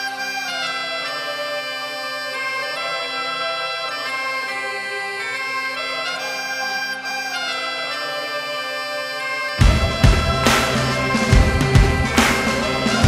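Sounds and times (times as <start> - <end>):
bagpipe melody over drone: 0.0 - 13.0.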